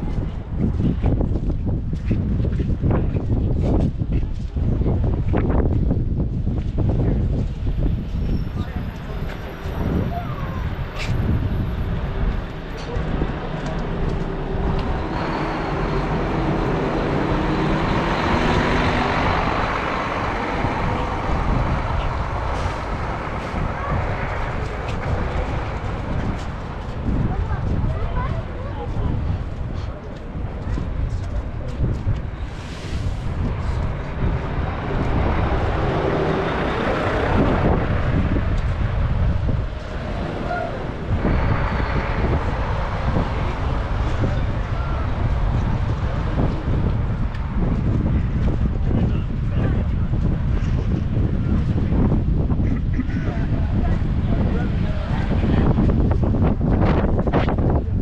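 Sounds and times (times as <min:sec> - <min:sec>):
vehicle engine and road noise: 0:00.0 - 0:58.0
wind buffeting microphone: 0:00.0 - 0:58.0
faint engine hum: 0:06.8 - 0:58.0.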